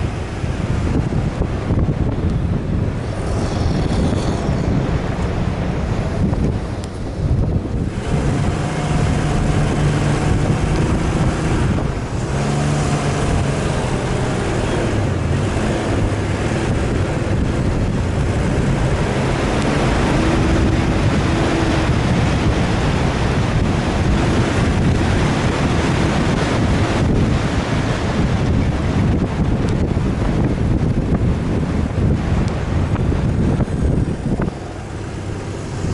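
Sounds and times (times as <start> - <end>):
vehicle engine under load: 0.0 - 35.9
wind and rumble noise: 0.0 - 35.9.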